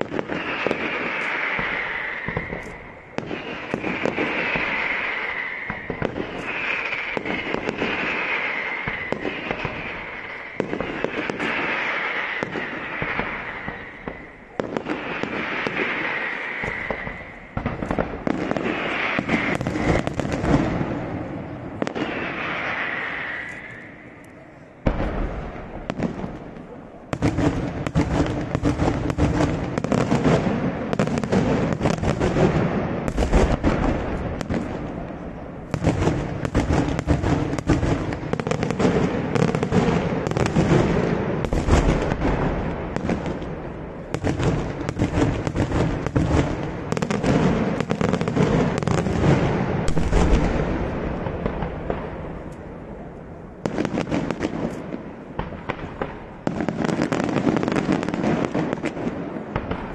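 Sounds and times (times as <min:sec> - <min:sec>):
fireworks bangs and crackle: 0:00.0 - 0:59.9.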